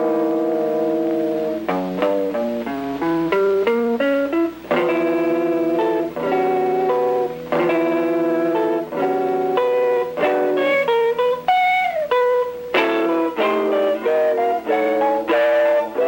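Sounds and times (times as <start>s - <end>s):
guitar chords ringing: 0.0s - 16.0s
plucked guitar notes: 0.0s - 16.0s.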